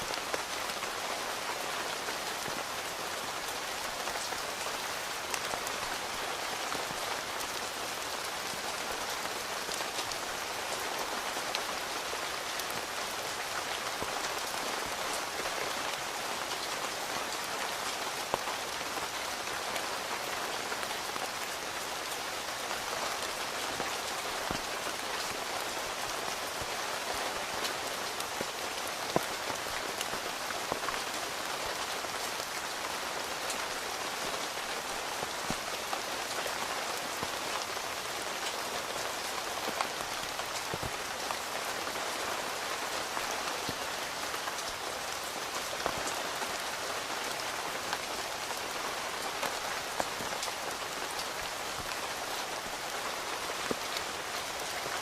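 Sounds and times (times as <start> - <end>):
rain on tent fabric: 0.0 - 55.0.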